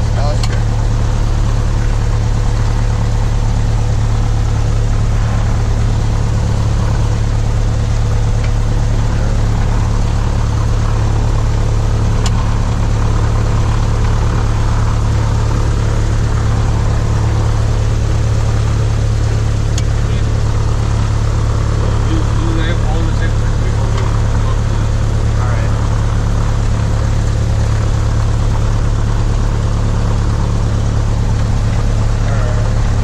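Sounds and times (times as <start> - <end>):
propeller aircraft engine droning: 0.0 - 33.0.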